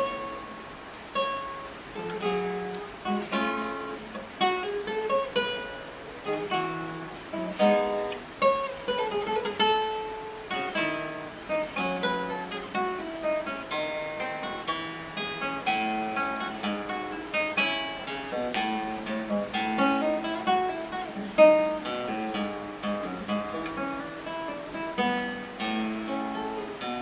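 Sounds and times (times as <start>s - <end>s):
classical guitar fingerstyle: 0.0s - 27.0s.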